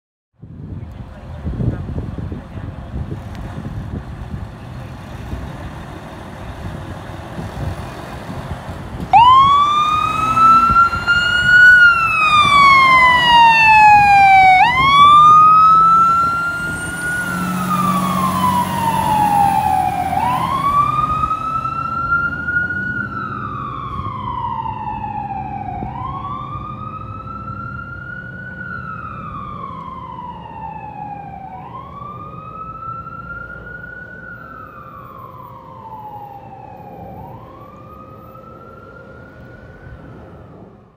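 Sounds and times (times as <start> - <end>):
truck engine rumble: 0.4 - 40.9
fire engine siren wailing: 5.6 - 40.9.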